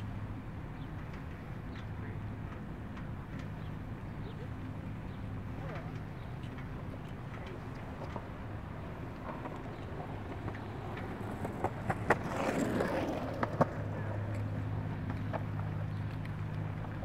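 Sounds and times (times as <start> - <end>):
bicycle rolling on pavement: 0.0 - 17.0.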